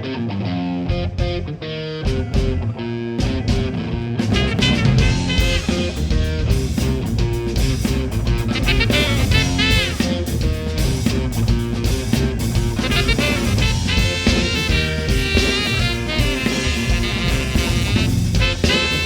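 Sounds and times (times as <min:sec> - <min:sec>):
bass line: 0:00.0 - 0:19.0
electric guitar bending notes: 0:00.0 - 0:19.0
rock band playing: 0:00.0 - 0:19.0.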